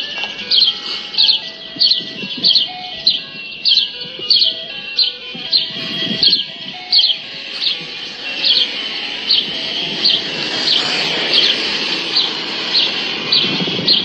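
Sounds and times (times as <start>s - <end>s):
faint ice cream truck music: 0.0s - 14.0s
small bird chirping: 0.5s - 14.0s.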